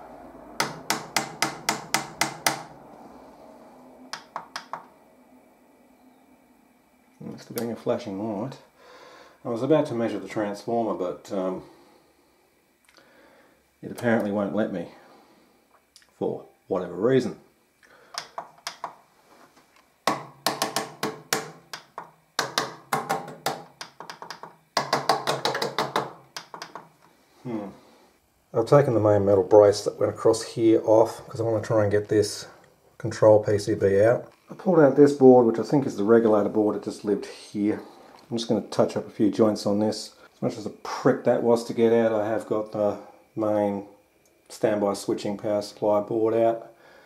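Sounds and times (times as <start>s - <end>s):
low mains buzz: 0.0s - 47.0s.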